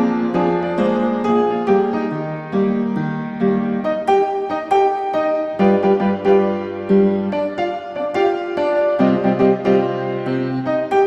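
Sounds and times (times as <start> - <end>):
keyboard playing a melody: 0.0 - 11.0.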